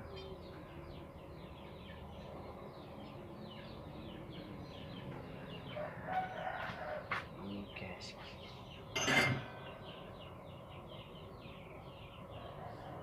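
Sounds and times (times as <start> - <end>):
birds chirping: 0.0 - 13.0
low steady hum: 0.0 - 13.0.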